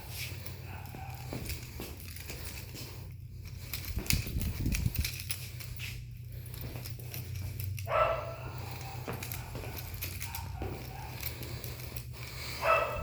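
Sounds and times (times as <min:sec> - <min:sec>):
kittens scampering and pouncing: 0:00.0 - 0:13.0
steady low hum: 0:00.0 - 0:13.0.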